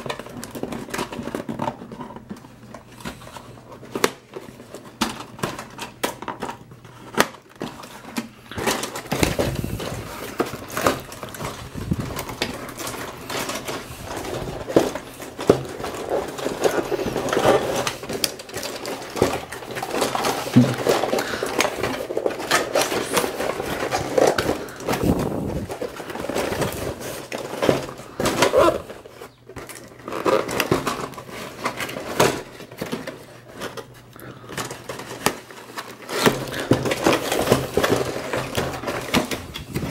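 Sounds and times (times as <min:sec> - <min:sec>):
plastic toy figures clattering: 0:00.0 - 0:39.9.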